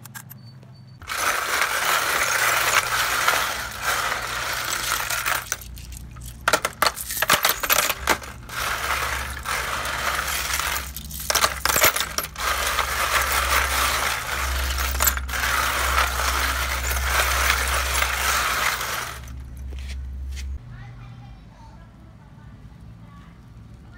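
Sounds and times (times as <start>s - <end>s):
coins clinking and scraping: 1.0s - 20.6s.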